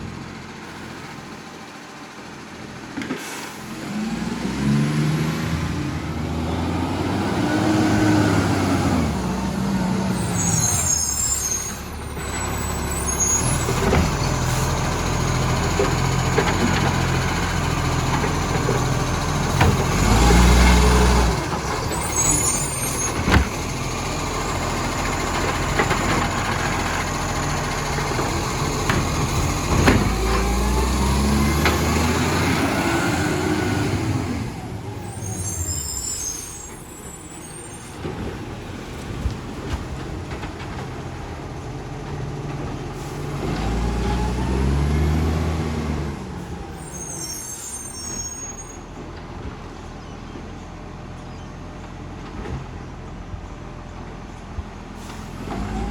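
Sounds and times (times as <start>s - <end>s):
diesel truck engine revving: 0.0s - 49.6s, 54.9s - 55.9s.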